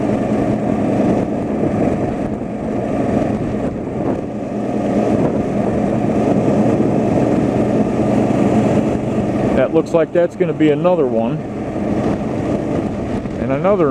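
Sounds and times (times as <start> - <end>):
car engine and road noise: 0.0 - 13.9.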